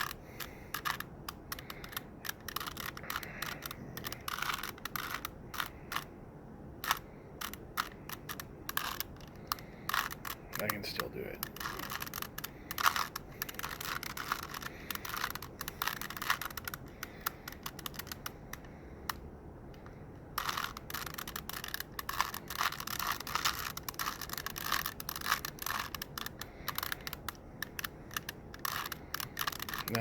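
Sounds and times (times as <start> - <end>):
plastic puzzle cube clicking: 0.0 - 6.1, 6.8 - 10.8, 11.4 - 30.0.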